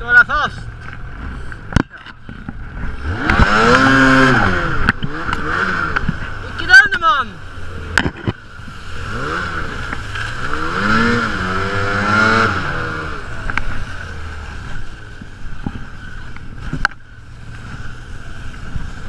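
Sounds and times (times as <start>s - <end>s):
snowmobile engine revving: 2.7s - 19.0s.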